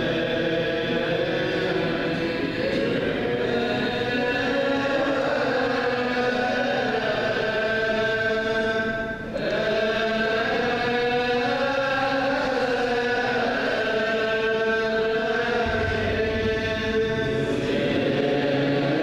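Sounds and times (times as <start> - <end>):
liturgical chanting: 0.0 - 19.0.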